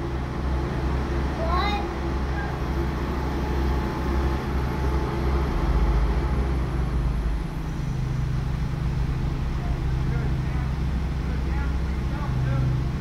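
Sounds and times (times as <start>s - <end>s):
diesel engines droning: 0.0s - 13.0s.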